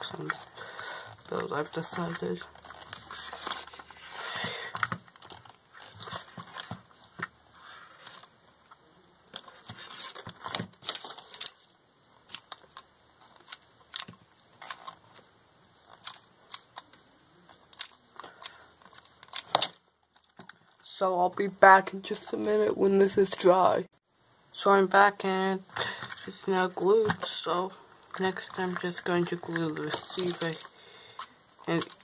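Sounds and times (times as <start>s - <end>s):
plastic handling clicks and rustles: 0.0s - 21.5s, 25.7s - 32.0s.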